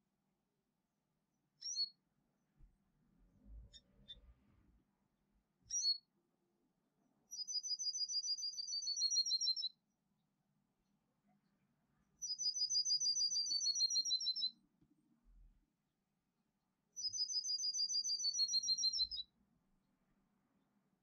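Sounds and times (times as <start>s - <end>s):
songbird song: 1.3s - 15.8s, 16.9s - 19.4s.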